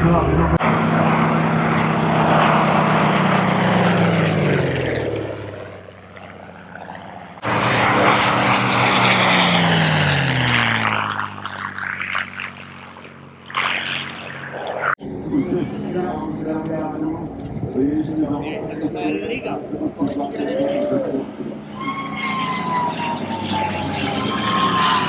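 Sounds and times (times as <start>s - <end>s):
propeller airplane flying past: 0.0s - 25.0s.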